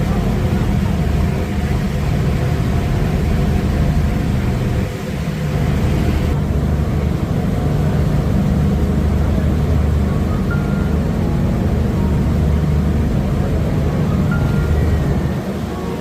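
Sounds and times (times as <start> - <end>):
ferry engine low hum: 0.0 - 16.0.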